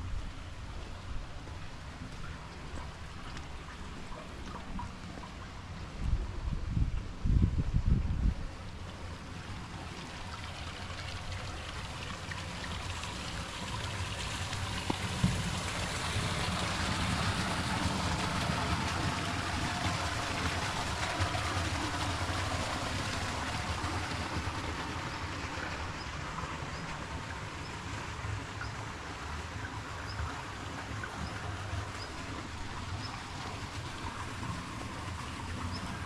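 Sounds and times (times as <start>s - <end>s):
running water: 0.0s - 36.0s.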